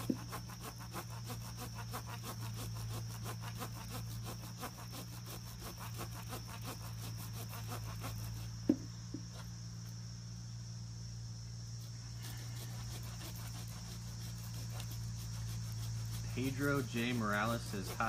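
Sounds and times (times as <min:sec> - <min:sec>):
insects chirping in rapid pulses: 0:00.0 - 0:18.0.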